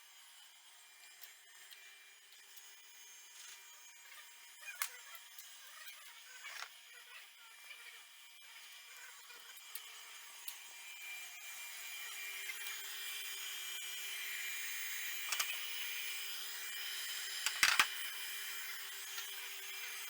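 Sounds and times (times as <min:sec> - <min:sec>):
router spindle whine cutting wood: 0:00.0 - 0:20.0.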